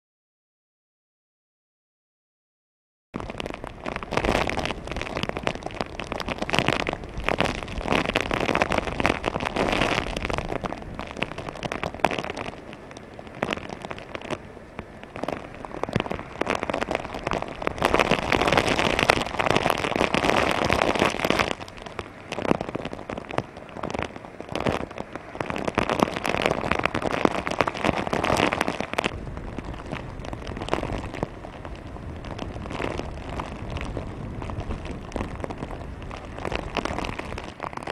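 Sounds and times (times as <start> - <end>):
strong wind gusts: 3.2 - 37.9
heavy rain hissing: 3.3 - 37.9.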